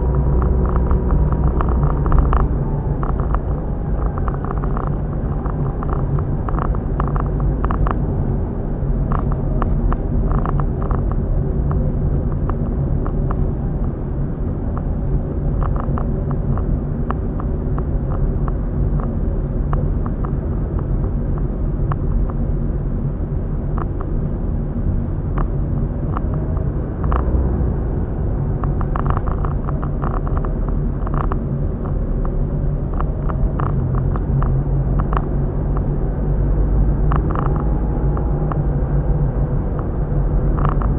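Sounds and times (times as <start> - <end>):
car road and engine rumble: 0.0 - 40.9
light rattles and clicks: 0.0 - 40.9.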